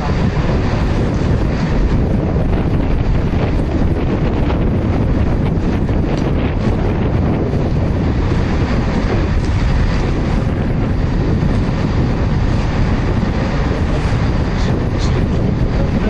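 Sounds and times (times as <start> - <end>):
steam locomotive running: 0.0 - 16.0
wind buffeting microphone: 0.0 - 16.0.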